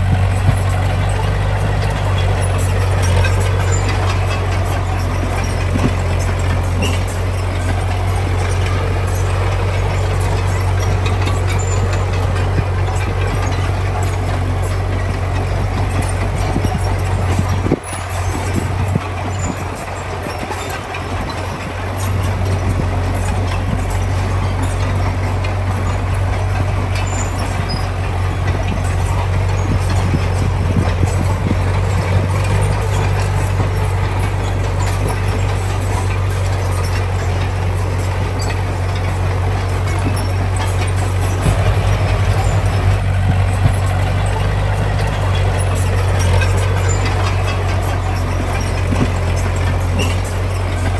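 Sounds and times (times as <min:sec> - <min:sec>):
heavy diesel engine running: 0:00.0 - 0:50.9
short knocks and clanks: 0:00.0 - 0:50.9.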